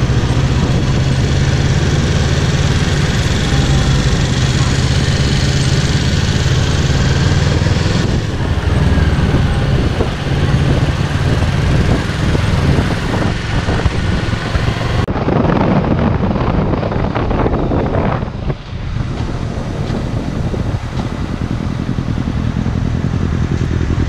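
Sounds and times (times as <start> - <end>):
motorcycle engine idling and pulling away: 0.0 - 15.1, 15.8 - 24.0
wind noise on microphone: 0.0 - 24.0.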